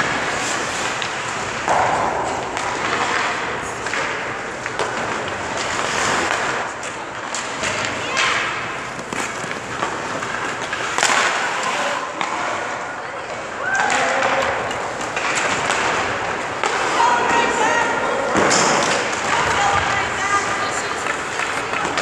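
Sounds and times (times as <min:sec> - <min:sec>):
skate blades scraping on ice: 0:00.0 - 0:12.8, 0:14.8 - 0:22.0
hockey sticks and pucks clacking: 0:00.0 - 0:22.0.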